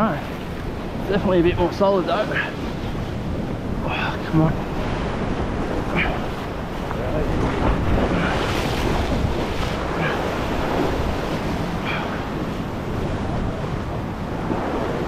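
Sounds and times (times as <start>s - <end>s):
waves breaking on rocks: 0.0s - 15.0s
wind on microphone: 0.0s - 15.0s.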